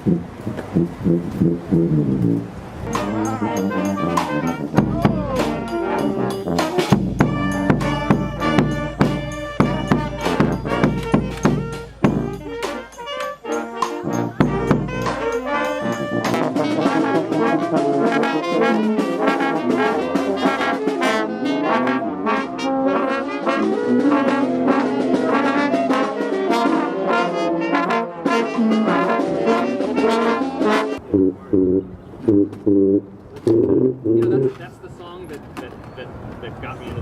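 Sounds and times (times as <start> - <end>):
trombones and trumpets: 0.0 - 35.0
brass street band playing: 0.0 - 35.5.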